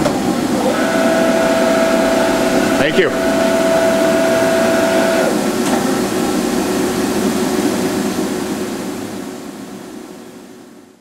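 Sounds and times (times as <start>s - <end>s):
machine hum and whir: 0.0s - 11.0s.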